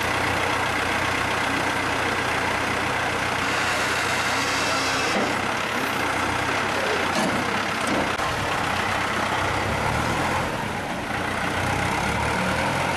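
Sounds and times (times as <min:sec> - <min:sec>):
truck engine humming: 0:00.0 - 0:12.9.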